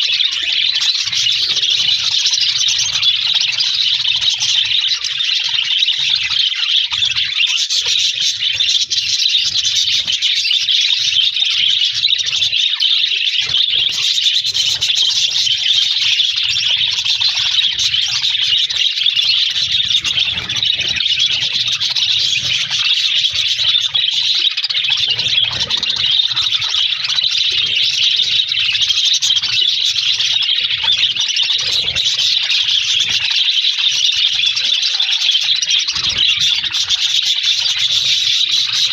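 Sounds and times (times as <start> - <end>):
flock of budgerigars chattering: 0.0 - 38.9.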